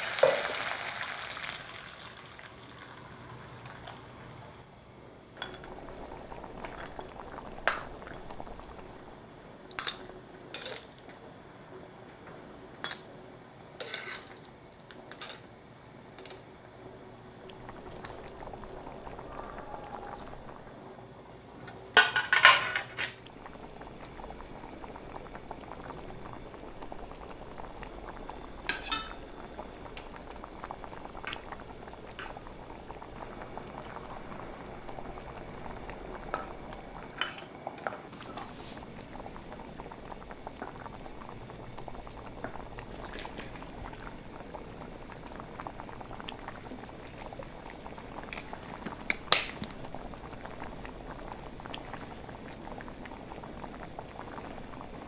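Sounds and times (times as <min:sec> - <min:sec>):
broth boiling and bubbling: 0:00.0 - 0:55.0.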